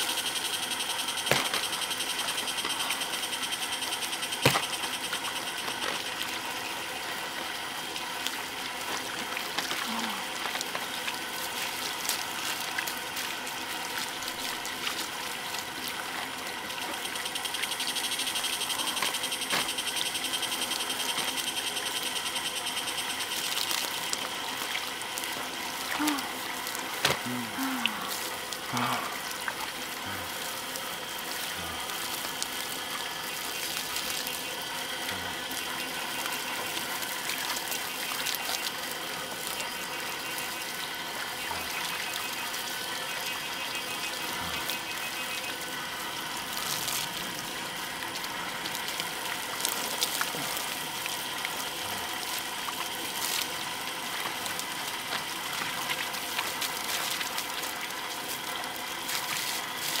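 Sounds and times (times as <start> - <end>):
water running from a hose: 0.0 - 60.0
water splashing on ground: 0.7 - 3.2, 7.8 - 60.0.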